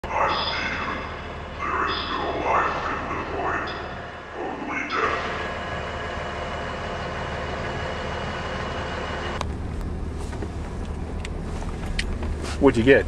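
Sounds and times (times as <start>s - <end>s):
moving vehicle rumble and hiss: 0.1s - 13.0s.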